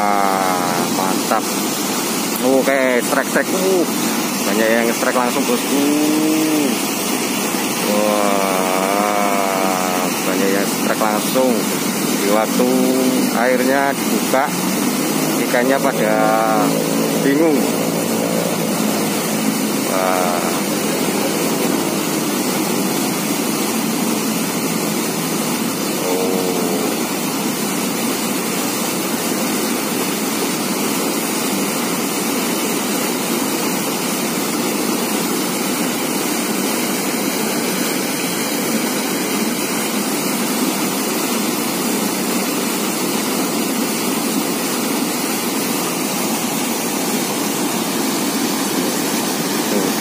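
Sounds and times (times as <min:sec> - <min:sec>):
water rushing through sluice gate: 0:00.0 - 0:50.0.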